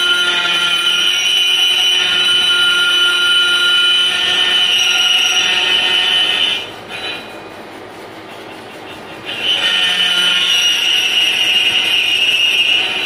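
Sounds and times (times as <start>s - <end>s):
lathe running quietly: 0.0s - 13.0s
lathe tool screeching: 0.0s - 13.0s.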